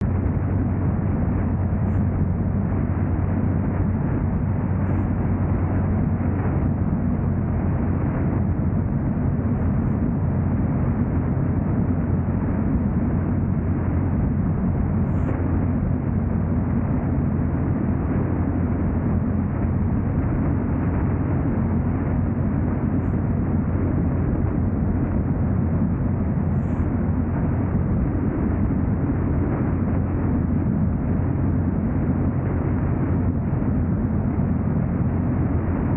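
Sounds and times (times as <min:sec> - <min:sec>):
car road and engine noise: 0:00.0 - 0:35.9.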